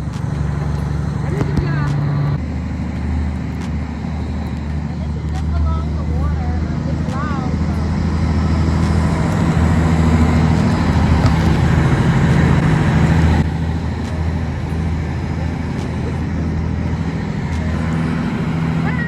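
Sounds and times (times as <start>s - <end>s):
jet boat engine drone: 0.0s - 19.0s
rushing water: 0.0s - 19.0s.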